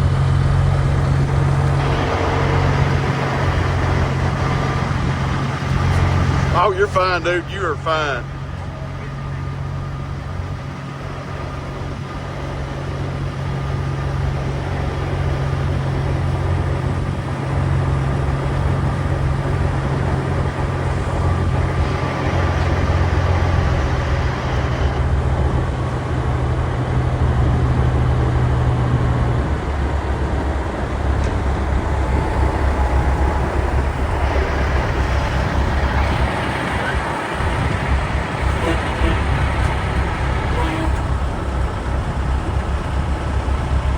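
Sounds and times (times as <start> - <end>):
diesel truck engines droning: 0.0 - 43.9.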